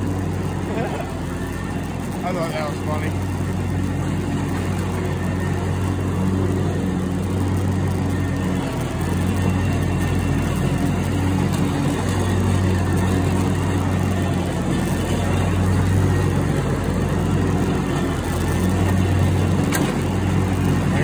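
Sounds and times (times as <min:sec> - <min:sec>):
ride-on mower engine droning: 0:00.0 - 0:21.0.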